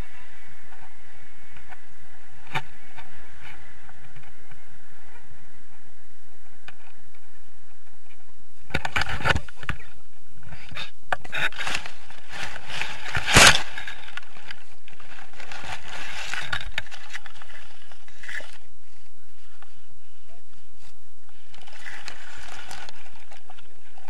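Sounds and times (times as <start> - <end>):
grass scraping against camera: 0.0 - 24.0.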